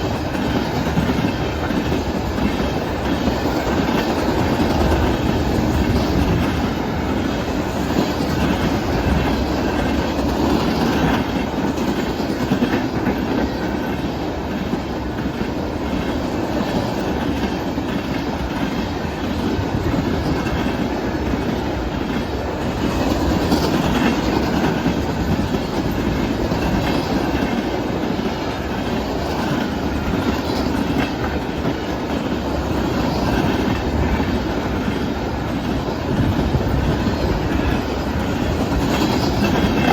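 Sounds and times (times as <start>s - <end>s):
clickety-clack over rail joints: 0.0s - 39.9s
freight train wheels rumbling: 0.0s - 39.9s.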